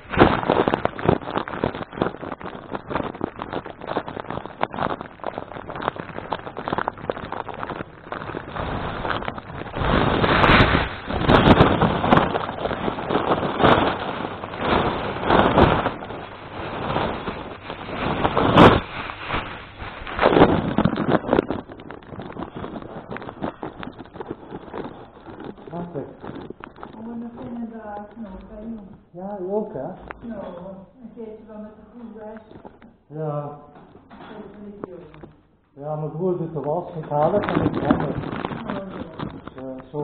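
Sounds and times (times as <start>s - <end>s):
microphone handling rustling: 0.0s - 40.0s.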